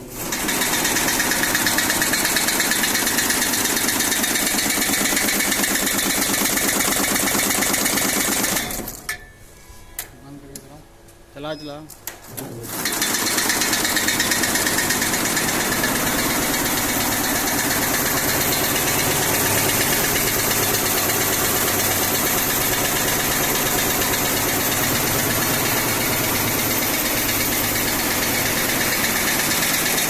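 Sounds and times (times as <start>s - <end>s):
embroidery machine stitching: 0.0s - 9.0s, 12.4s - 30.0s.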